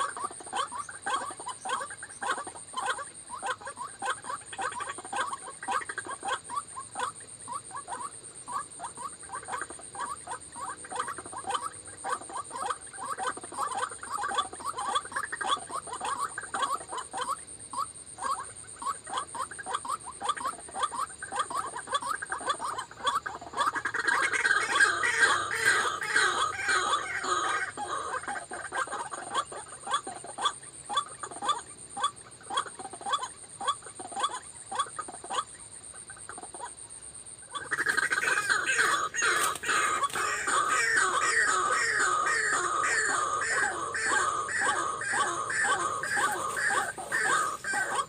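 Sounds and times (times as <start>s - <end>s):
waterhen squeaky calls: 0.0s - 35.4s, 37.5s - 48.0s.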